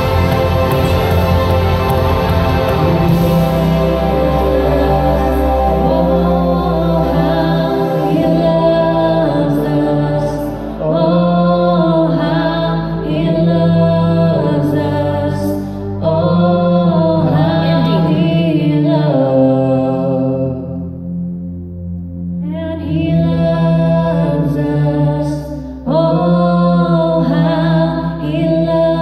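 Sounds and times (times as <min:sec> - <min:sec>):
backing track of sustained chords: 0:00.0 - 0:29.0.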